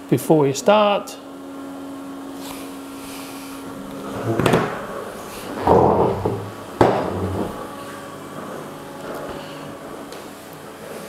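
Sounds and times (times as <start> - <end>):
steady motor hum: 0.0 - 11.0.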